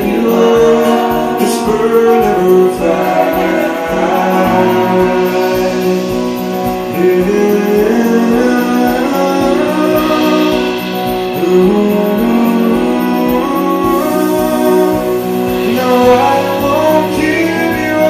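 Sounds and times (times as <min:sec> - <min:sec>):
steady drum beat: 0:00.0 - 0:18.0
strummed guitar: 0:00.0 - 0:18.0.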